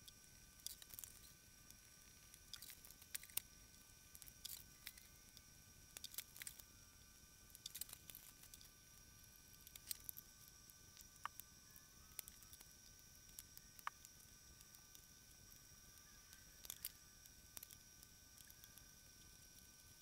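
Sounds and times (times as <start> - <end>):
faint steady high tone: 0.0 - 20.0.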